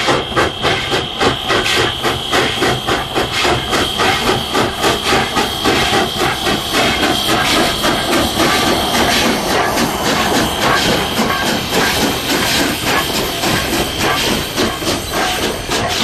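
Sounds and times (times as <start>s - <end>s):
high hiss of steam: 0.0s - 16.0s
steam locomotive exhaust chuffing: 0.0s - 16.0s.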